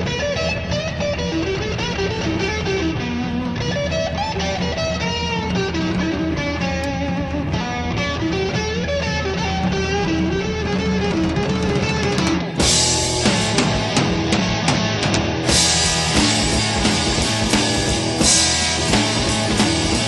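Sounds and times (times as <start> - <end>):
electric guitar bending line: 0.0 - 20.0
band playing with drums: 1.0 - 20.0.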